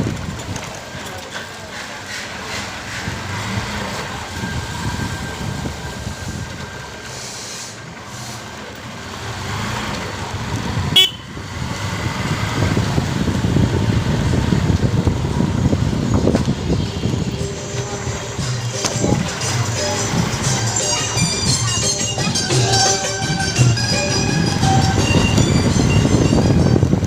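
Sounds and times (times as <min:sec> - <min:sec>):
road traffic and engine noise: 0:00.0 - 0:27.0.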